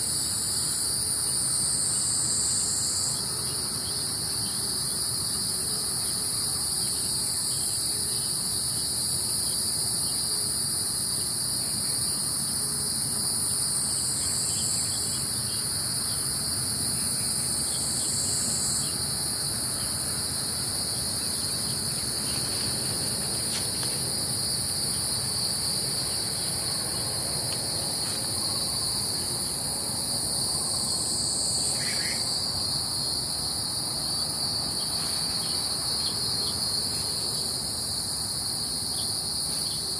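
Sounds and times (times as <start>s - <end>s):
insects singing: 0.1s - 39.9s.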